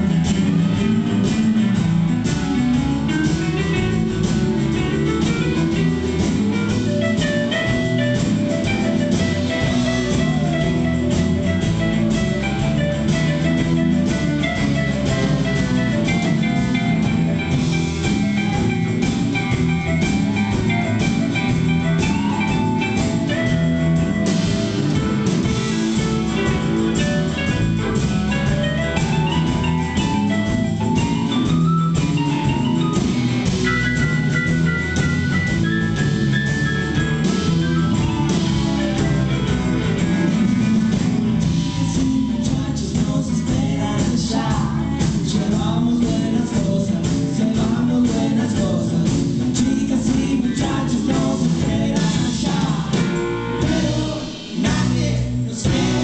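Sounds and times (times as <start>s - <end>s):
keyboard melody: 0.0s - 45.7s, 51.8s - 56.0s
bass: 0.0s - 56.0s
electric guitar: 0.0s - 56.0s
percussion: 0.0s - 56.0s.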